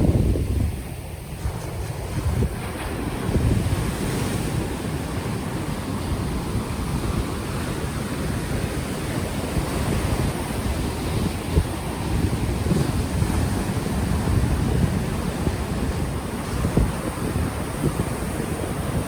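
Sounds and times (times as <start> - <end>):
ocean waves on shore: 0.0 - 19.0
wind buffeting microphone: 0.0 - 19.0.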